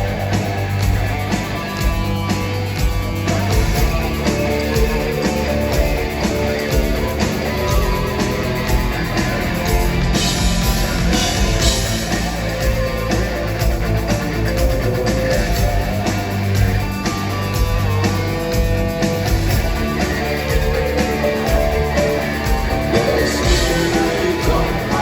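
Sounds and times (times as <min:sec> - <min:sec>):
rock music: 0:00.0 - 0:25.0.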